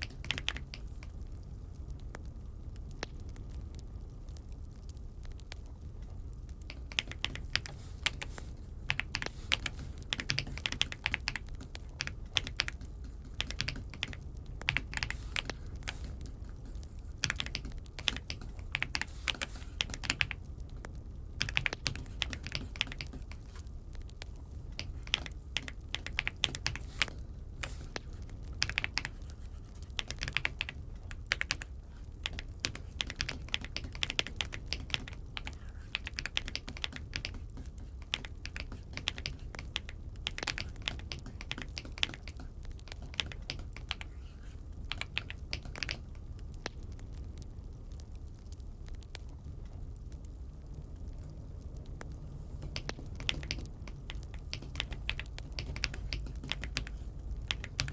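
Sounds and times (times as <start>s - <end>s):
mechanical keyboard typing: 0.0s - 1.1s, 6.7s - 20.5s, 21.4s - 49.3s, 52.5s - 57.9s
low steady hum: 0.0s - 57.9s.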